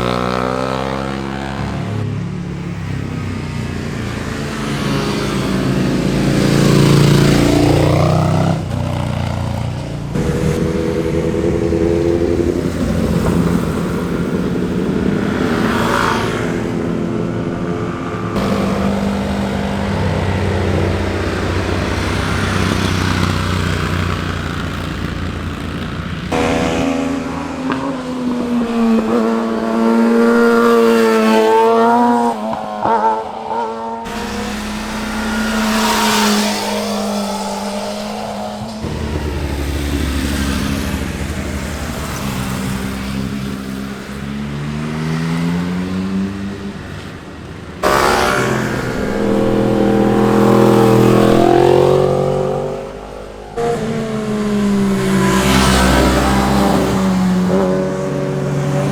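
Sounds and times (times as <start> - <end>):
motorcycles revving past: 0.0 - 58.9.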